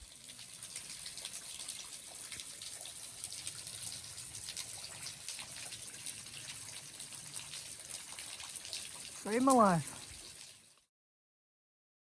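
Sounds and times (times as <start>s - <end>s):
small waterfall splashing: 0.0s - 10.9s.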